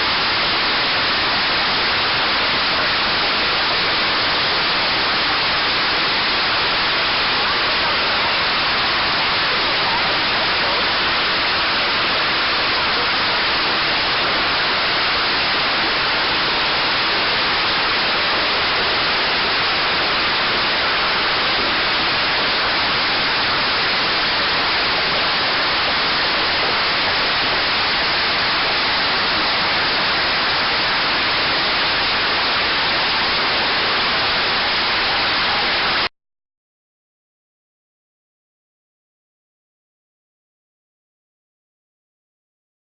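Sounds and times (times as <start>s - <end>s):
hail and rain falling hard: 0.0s - 36.1s.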